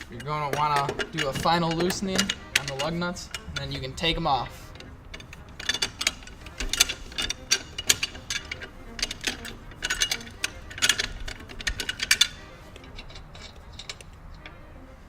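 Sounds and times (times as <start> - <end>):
lug wrench clicking and scraping: 0.0 - 15.0.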